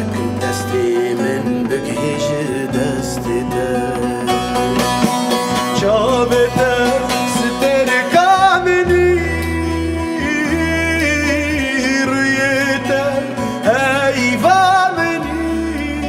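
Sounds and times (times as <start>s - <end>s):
person singing: 0.0s - 16.0s
plucked strings: 0.0s - 16.0s
sustained bass notes: 0.0s - 16.0s.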